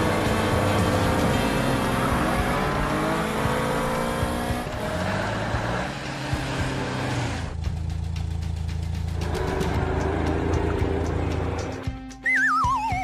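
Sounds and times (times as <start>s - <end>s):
cartoon car engines revving: 0.0s - 7.6s, 9.0s - 11.8s.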